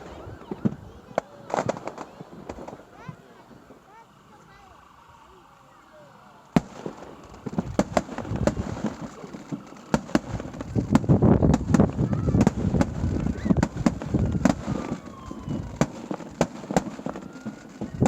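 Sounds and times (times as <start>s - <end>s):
fireworks bangs: 0.0s - 4.9s, 6.5s - 18.0s
rumbling crackle of fireworks: 0.0s - 5.0s, 6.4s - 18.0s.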